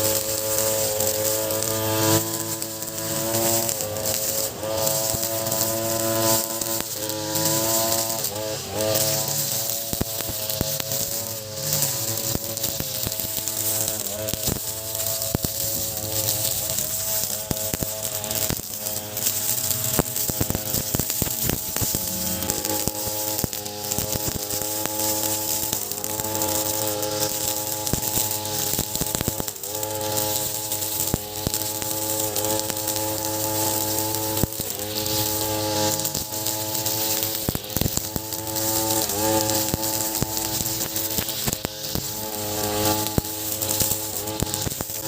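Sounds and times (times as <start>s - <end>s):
brush cutter engine at high revs: 0.0s - 45.0s
nylon line cutting grass: 0.0s - 45.0s.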